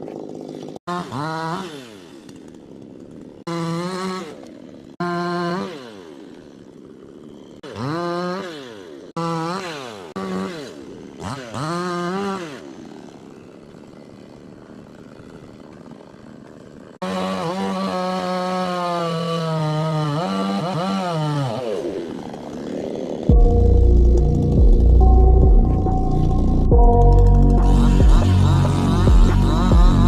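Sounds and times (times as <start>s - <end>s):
chainsaw engine revving: 0.0s - 30.0s.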